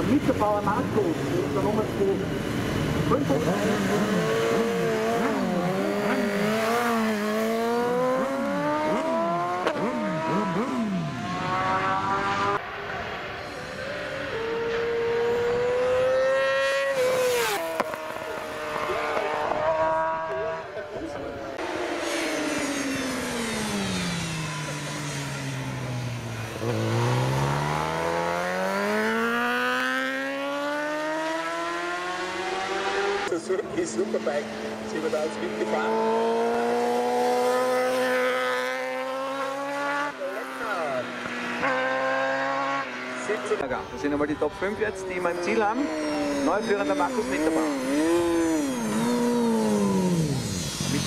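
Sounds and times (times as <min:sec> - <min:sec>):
motorcycle engine at high revs: 0:00.0 - 0:12.6, 0:14.1 - 0:51.0.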